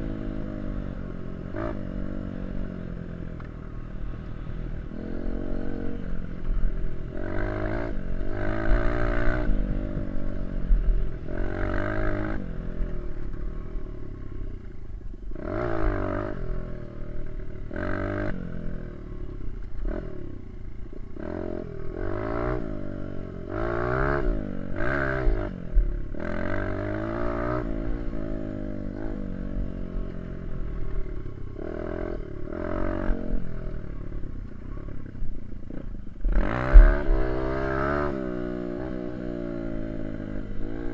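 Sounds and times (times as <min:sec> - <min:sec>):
dirt bike engine revving: 0:00.0 - 0:13.7, 0:15.4 - 0:40.9.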